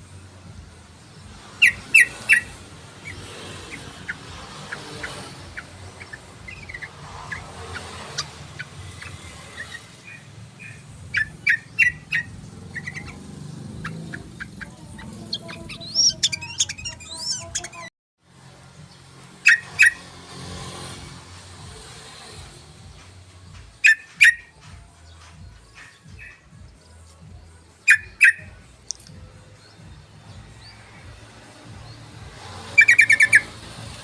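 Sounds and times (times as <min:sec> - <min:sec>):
bulbul song: 0:00.0 - 0:17.9, 0:21.4 - 0:34.0.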